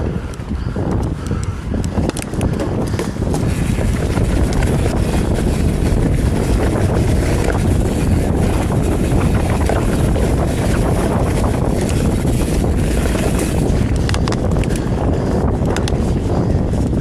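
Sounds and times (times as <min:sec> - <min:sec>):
bike clicks and rattles: 0:00.0 - 0:17.0
bike tyres rolling on dirt: 0:00.0 - 0:17.0
wind on microphone: 0:00.0 - 0:17.0.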